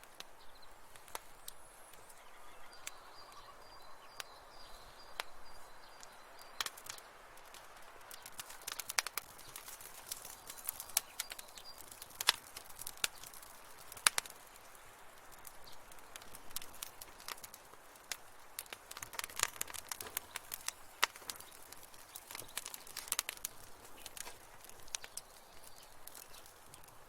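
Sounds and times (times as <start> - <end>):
fireplace fire crackling: 0.0 - 27.0
soft fire hiss: 0.0 - 27.0.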